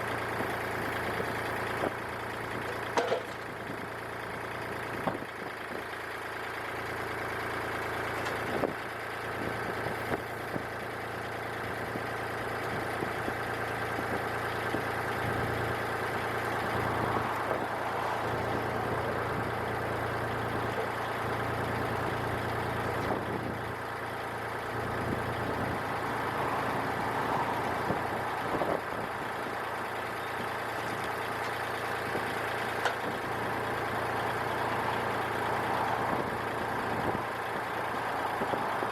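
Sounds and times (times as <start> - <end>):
gasoline engine running: 0.0 - 38.9.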